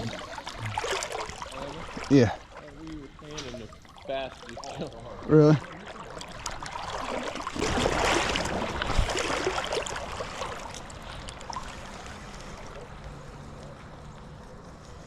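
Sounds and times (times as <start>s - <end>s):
water splashing: 0.0s - 14.4s
river water washing: 0.0s - 14.6s.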